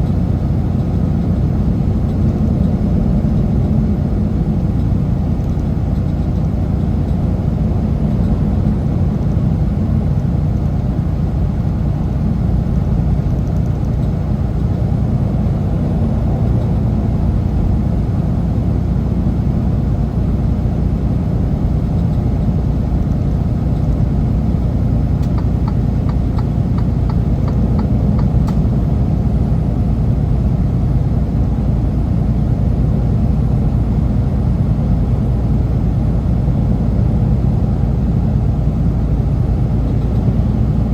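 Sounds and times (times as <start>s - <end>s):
truck diesel engine rumble: 0.0s - 40.9s.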